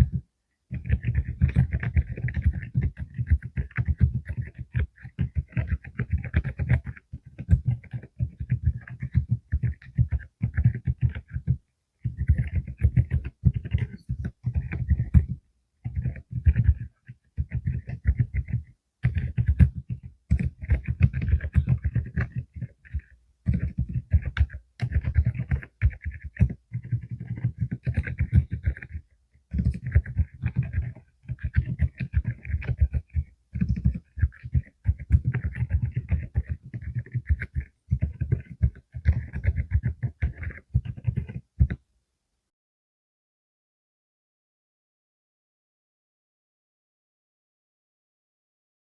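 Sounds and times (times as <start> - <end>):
soft mechanical keyboard typing: 0.0 - 41.8.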